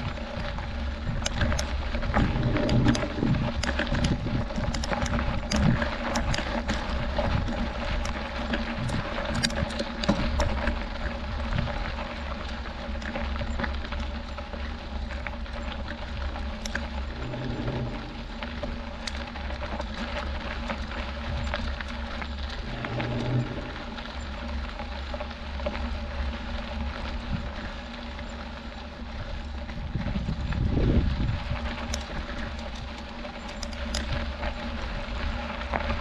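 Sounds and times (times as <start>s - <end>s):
tyres crunching over gravel: 0.0s - 36.0s
wind rumbling on microphone: 0.0s - 36.0s.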